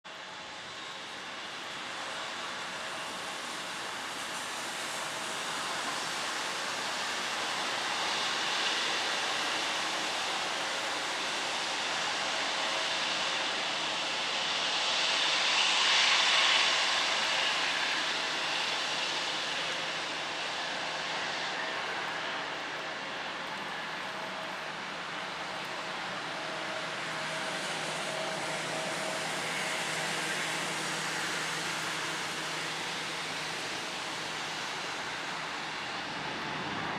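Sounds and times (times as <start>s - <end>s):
jet engines whining: 0.2s - 36.9s.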